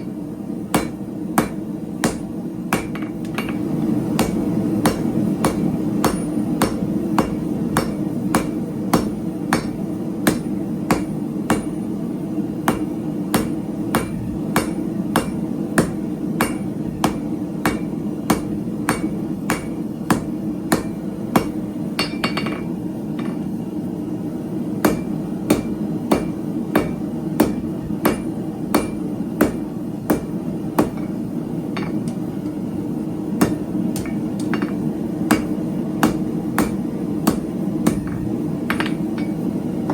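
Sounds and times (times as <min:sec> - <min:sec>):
hammer striking steel on anvil: 0:00.0 - 0:11.9, 0:12.7 - 0:23.6, 0:24.8 - 0:32.7, 0:33.4 - 0:39.9
steady low hum: 0:00.0 - 0:39.9.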